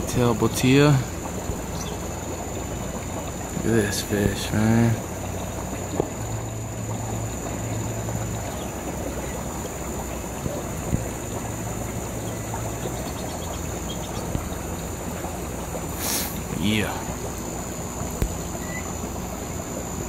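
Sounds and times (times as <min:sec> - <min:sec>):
faint high whine: 0:00.0 - 0:20.0
low hum: 0:00.0 - 0:20.0
water trickling: 0:00.0 - 0:20.0.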